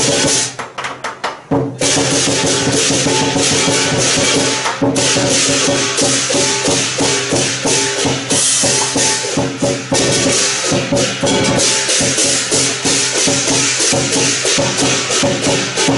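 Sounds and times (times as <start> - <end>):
hand cymbals crashing: 0.0 - 0.6, 1.8 - 15.9
drum beating: 0.0 - 15.9.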